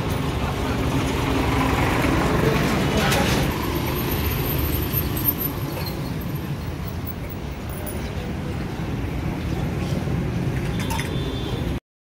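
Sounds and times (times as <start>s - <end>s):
low street rumble: 0.0s - 11.8s.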